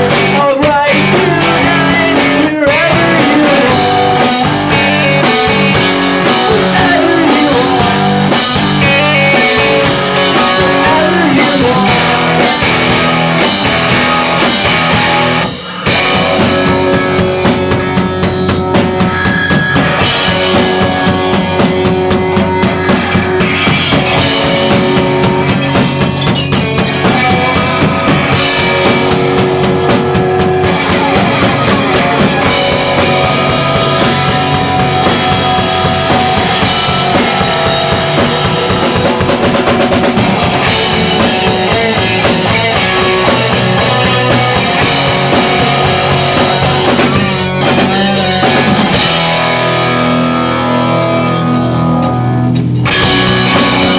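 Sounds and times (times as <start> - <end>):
drum kit beat: 0.0 - 53.9
rock band playing live: 0.0 - 53.9.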